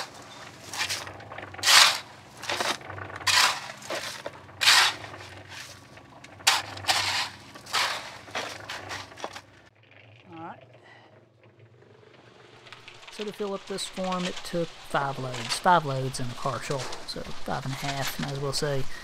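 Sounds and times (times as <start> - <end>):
shovel scraping wet concrete: 0.0 - 9.6, 13.1 - 19.0.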